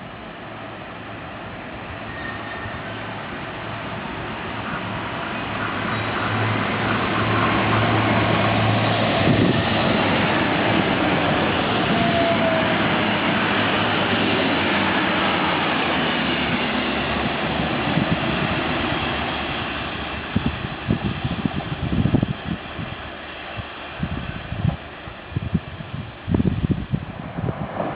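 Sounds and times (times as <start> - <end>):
train wheels rushing on rails: 0.0 - 27.9.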